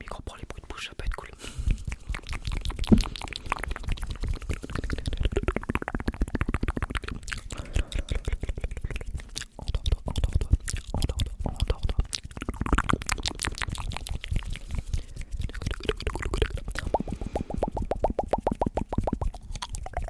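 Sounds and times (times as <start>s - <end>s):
squelchy mouth glides: 0.1s - 20.0s
wet mouth clicks and smacks: 0.2s - 20.0s.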